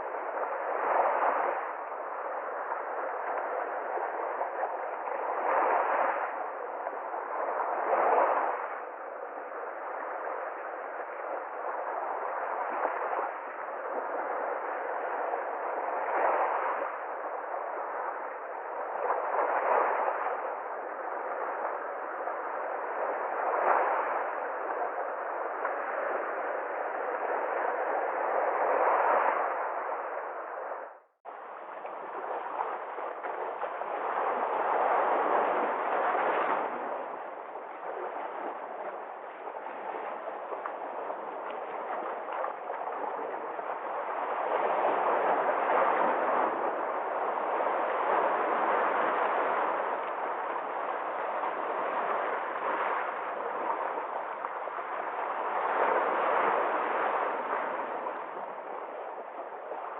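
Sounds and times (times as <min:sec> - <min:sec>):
sea waves washing onto shore: 0:00.0 - 0:59.9.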